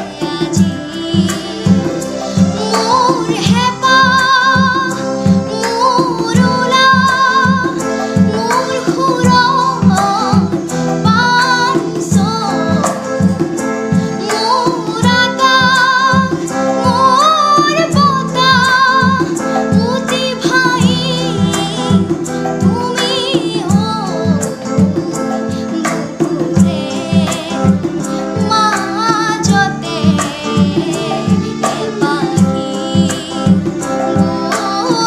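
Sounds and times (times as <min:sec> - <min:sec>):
girl singing with vibrato: 0:00.0 - 0:35.0
musical accompaniment with beat: 0:00.0 - 0:35.0.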